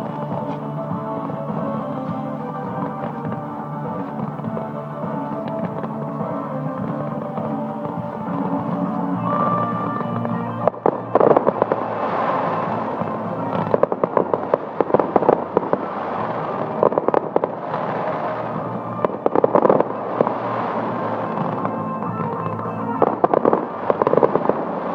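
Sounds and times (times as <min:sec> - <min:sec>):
fireworks crackling: 0:00.0 - 0:24.9
music playing: 0:00.0 - 0:24.9.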